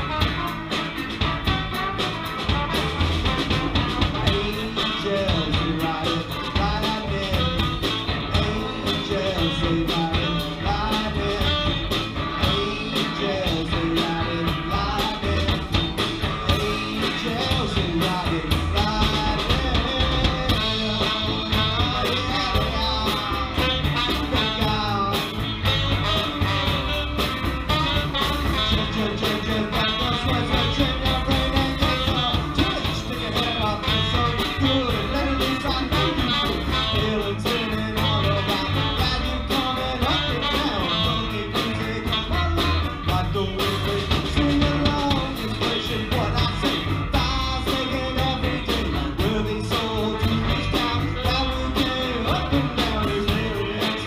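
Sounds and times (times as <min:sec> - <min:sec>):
live band with horns and guitars: 0:00.0 - 0:54.0.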